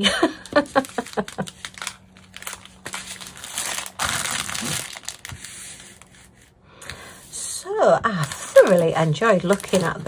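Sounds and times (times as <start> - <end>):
plastic crinkling: 0.1 - 6.6, 8.0 - 10.0.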